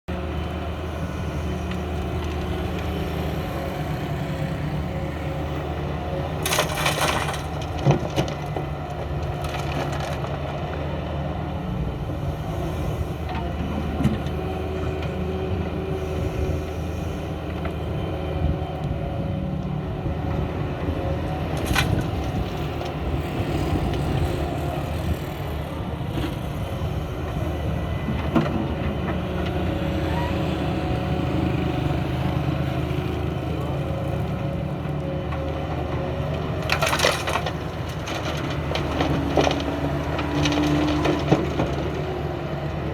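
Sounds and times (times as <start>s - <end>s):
excavator diesel engine running: 0.1s - 42.9s.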